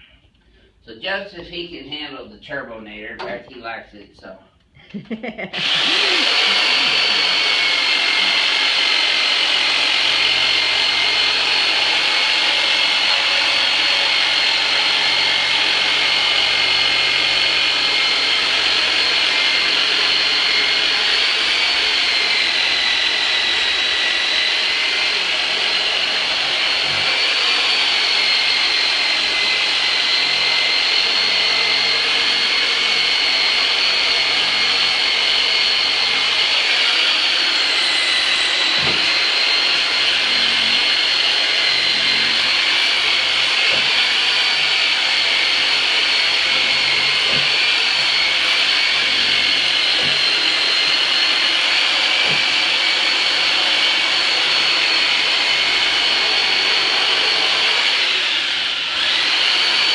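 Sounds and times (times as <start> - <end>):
massage tool high whine: 5.6 - 59.9.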